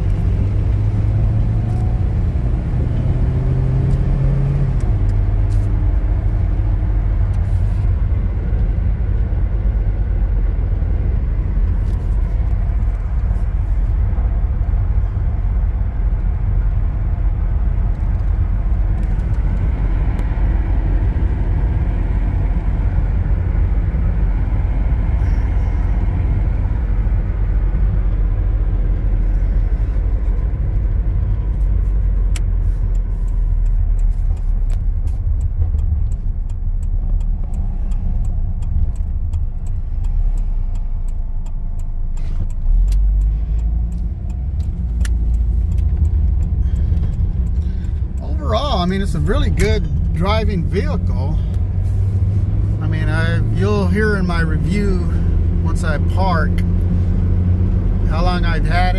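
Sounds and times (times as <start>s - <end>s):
engine running: 0.0s - 58.9s
road and tyre rumble: 0.0s - 58.9s.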